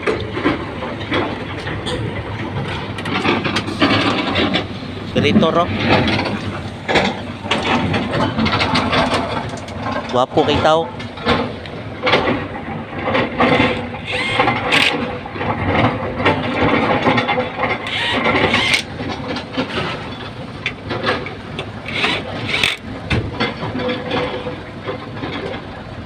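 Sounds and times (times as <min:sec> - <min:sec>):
excavator diesel engine running: 0:00.0 - 0:26.0
metallic clatter and knocks: 0:00.0 - 0:26.0.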